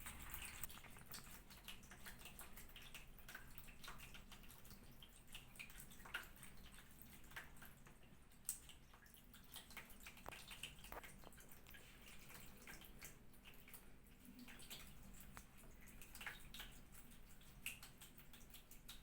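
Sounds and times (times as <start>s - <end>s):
water drips and splashes: 0.0s - 19.0s.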